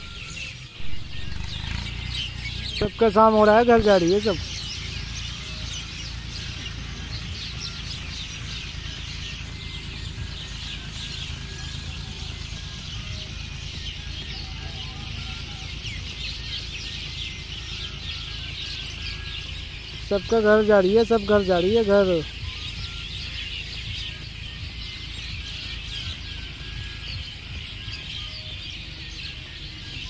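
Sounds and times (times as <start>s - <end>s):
low steady rumble: 0.0s - 29.8s
birds chirping and chattering: 0.0s - 30.0s.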